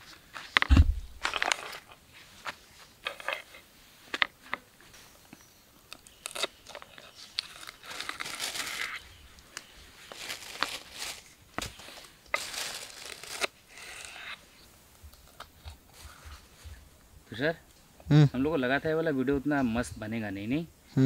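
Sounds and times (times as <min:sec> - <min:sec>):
leaves rustling: 0:00.0 - 0:05.2, 0:05.9 - 0:18.0.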